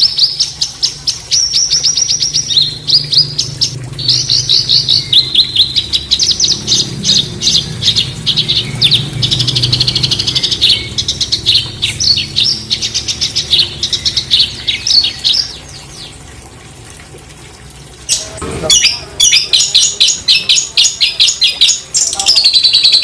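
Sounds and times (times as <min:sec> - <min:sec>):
songbird chirping and trilling: 0:00.0 - 0:16.2, 0:18.1 - 0:23.0.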